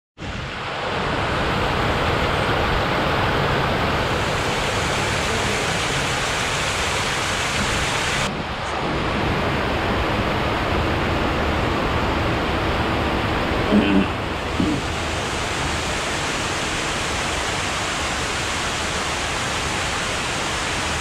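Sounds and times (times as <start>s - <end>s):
paddlewheel aerator churning water: 0.2s - 21.0s.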